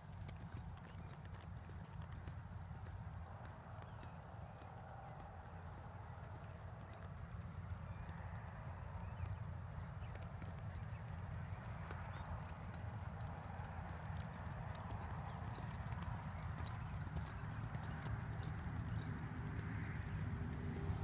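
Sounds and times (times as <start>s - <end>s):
horse hoofbeats on soft dirt: 0.0s - 21.0s.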